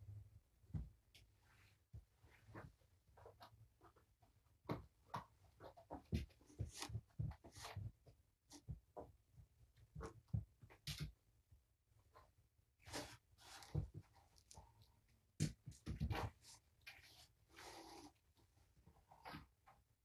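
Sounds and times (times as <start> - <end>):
kittens' paws tapping and scratching: 2.4 - 11.2, 12.1 - 19.9.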